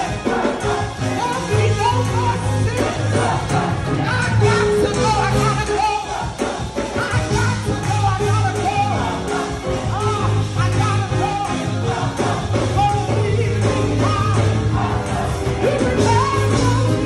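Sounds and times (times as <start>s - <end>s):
band with bass and beat: 0.0s - 17.0s
choir singing gospel: 0.0s - 17.0s.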